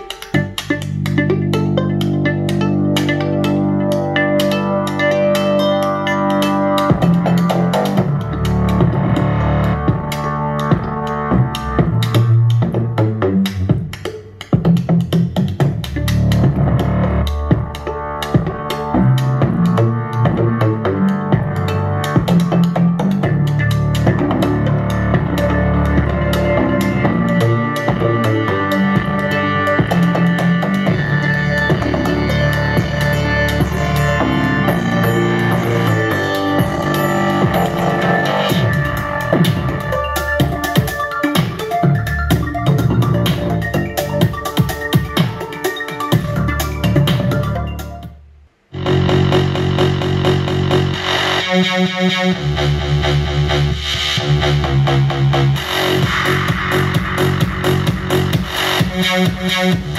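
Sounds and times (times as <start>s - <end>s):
music with bass and drums: 0.0s - 48.1s, 48.8s - 59.9s.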